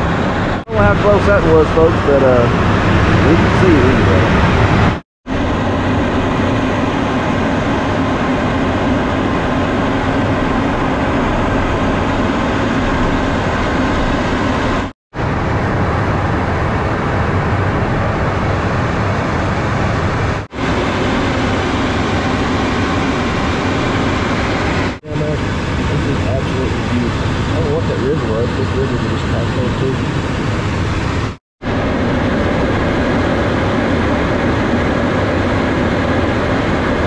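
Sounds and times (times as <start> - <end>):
jet cockpit drone of airflow and engines: 0.0 - 37.0.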